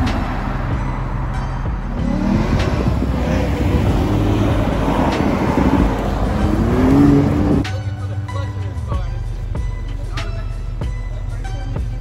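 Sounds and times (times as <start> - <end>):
sports car engines accelerating: 0.0 - 11.9.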